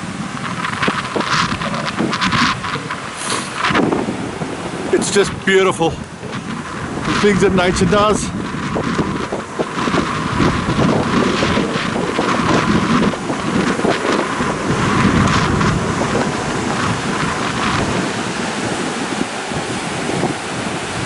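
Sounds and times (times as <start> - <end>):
water rushing into surf: 0.0 - 21.0
wind buffeting microphone: 0.0 - 21.0.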